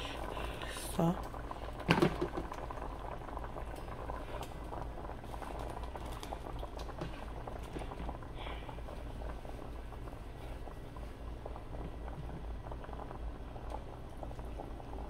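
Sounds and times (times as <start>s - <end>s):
pot of water boiling: 0.0s - 15.0s
small crackles and pops: 0.0s - 15.0s.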